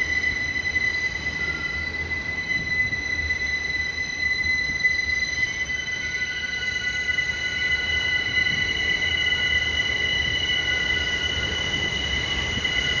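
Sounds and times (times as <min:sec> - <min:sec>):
train wheels squealing: 0:00.0 - 0:13.0.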